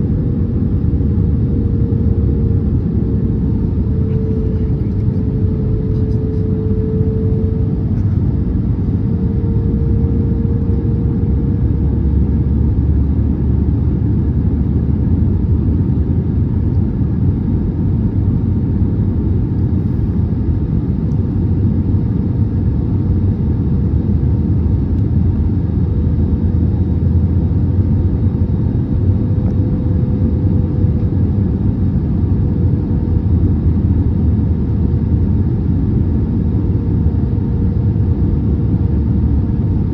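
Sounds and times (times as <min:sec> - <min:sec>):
airplane cabin engine rumble: 0:00.0 - 0:39.9
steady whine: 0:00.0 - 0:39.9.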